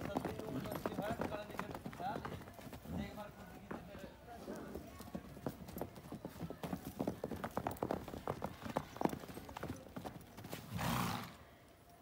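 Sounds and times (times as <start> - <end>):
horse hooves trotting on dirt: 0.0 - 11.3.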